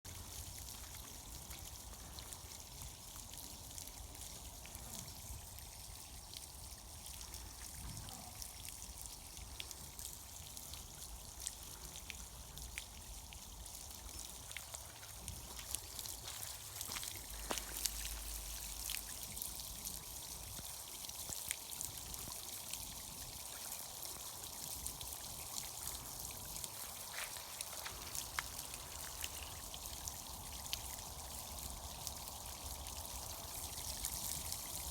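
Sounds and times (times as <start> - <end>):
small water splashes: 0.1 - 34.9
spring water pouring and trickling: 0.1 - 34.9.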